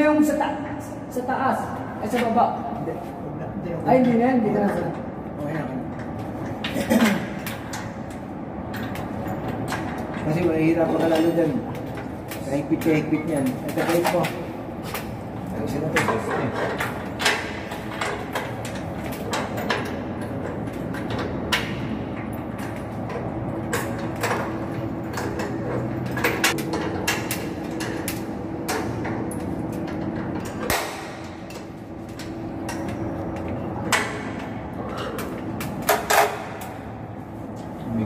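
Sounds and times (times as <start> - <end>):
machinery humming: 0.0 - 38.0.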